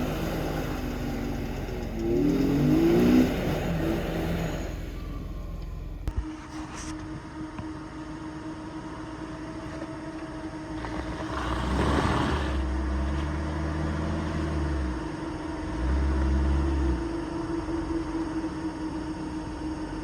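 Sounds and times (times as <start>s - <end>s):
off-road vehicle engine: 0.0s - 20.0s.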